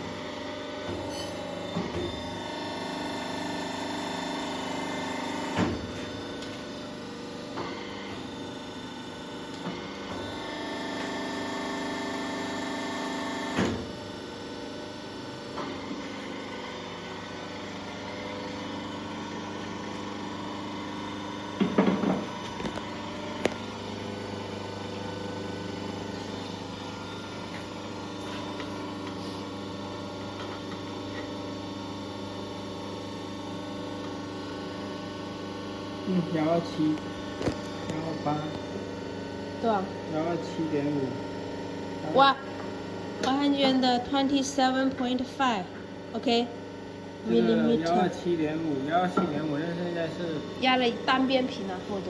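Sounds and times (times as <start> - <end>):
motor running: 0.0 - 31.3, 33.6 - 52.0
steady machine hum: 0.0 - 52.0.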